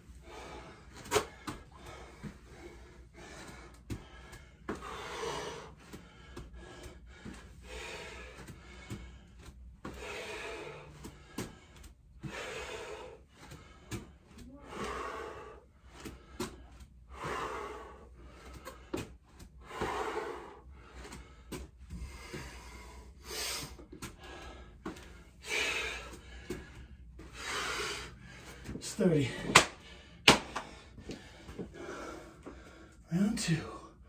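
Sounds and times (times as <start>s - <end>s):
man breathing hard: 0.0s - 34.0s.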